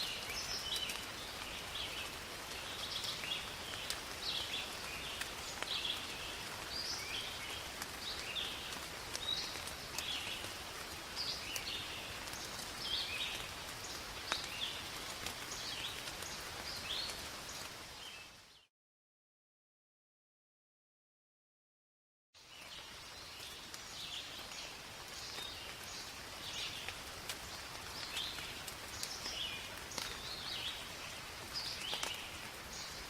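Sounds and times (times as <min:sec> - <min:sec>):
steady rain hiss: 0:00.0 - 0:18.7, 0:22.4 - 0:33.0.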